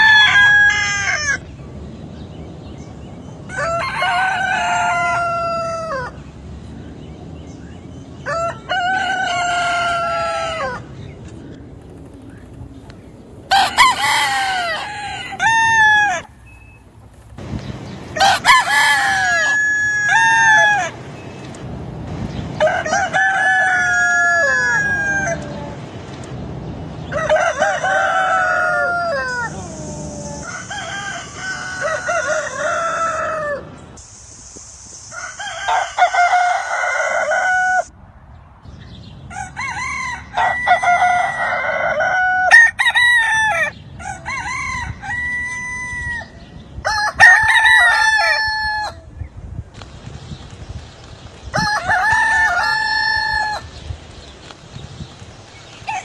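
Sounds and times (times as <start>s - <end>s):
roosters crowing: 0.0s - 1.5s, 3.3s - 6.4s, 8.0s - 11.1s, 11.8s - 34.0s, 35.1s - 37.9s, 39.2s - 49.2s, 51.5s - 54.1s, 55.4s - 56.0s.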